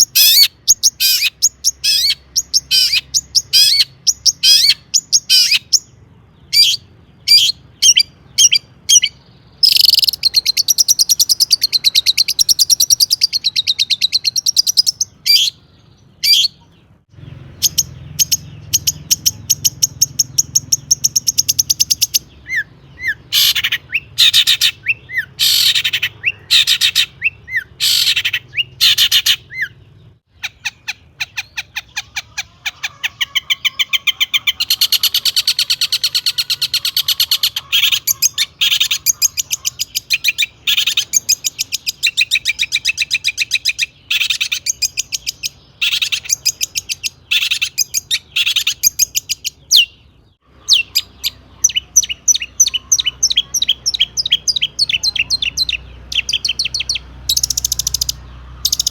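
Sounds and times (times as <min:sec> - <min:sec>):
shrike singing varied song: 0:00.0 - 0:58.9.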